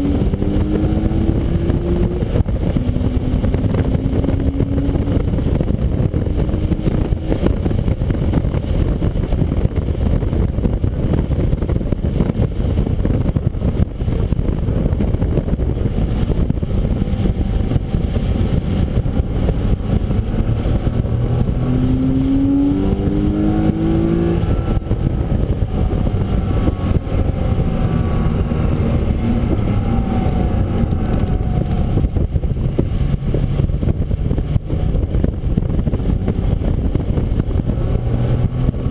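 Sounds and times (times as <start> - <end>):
race car engine revving: 0.0 - 10.0, 13.1 - 38.9
wind and road noise: 0.0 - 38.9.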